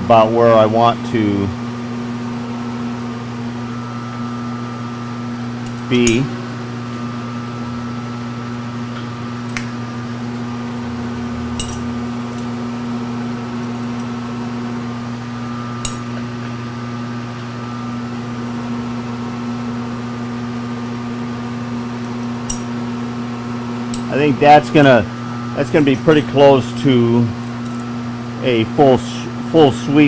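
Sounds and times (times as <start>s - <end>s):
milling machine electric hum: 0.0s - 30.0s.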